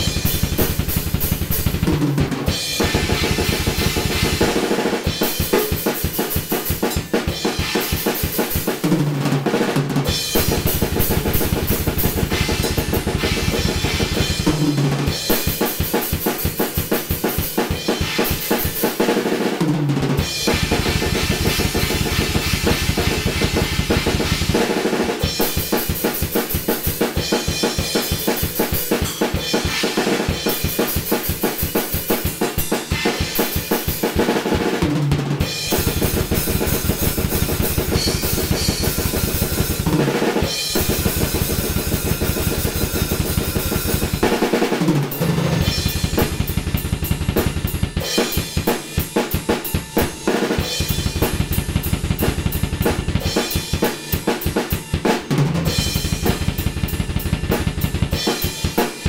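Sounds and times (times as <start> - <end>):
snare and cymbals: 0.0 - 59.0.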